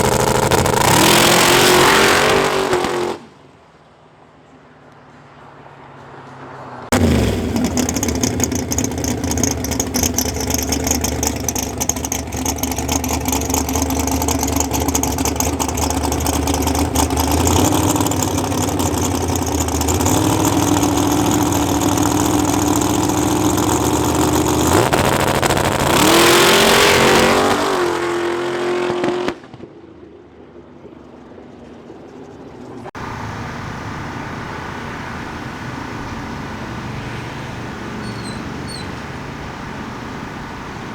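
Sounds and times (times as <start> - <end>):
drag car engine revving: 0.0 - 3.4, 6.9 - 29.6, 33.0 - 40.9.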